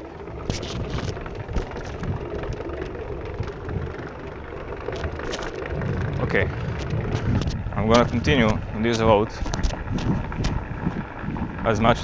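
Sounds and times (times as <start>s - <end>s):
electric skateboard rolling on pavement: 0.0s - 12.0s
wind on microphone: 0.0s - 12.0s.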